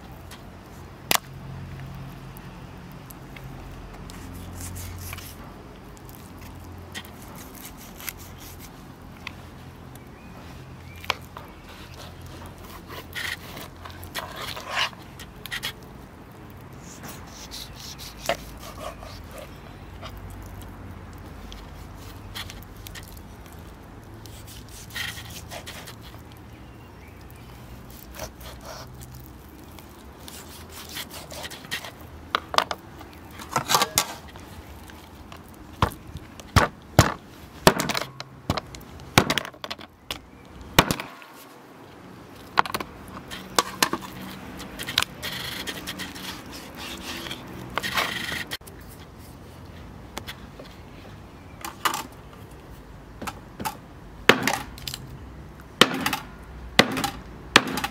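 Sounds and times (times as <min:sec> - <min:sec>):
cracking and scraping: 0:00.0 - 0:57.9.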